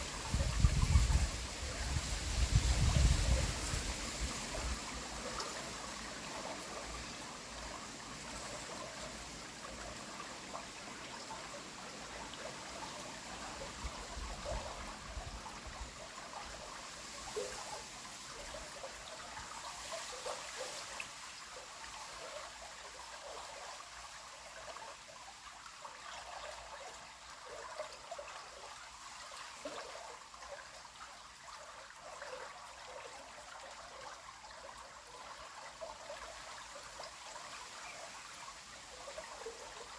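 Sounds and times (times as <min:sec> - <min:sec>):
river water flowing: 0:00.0 - 0:39.9
water trickling and gurgling: 0:00.0 - 0:39.9.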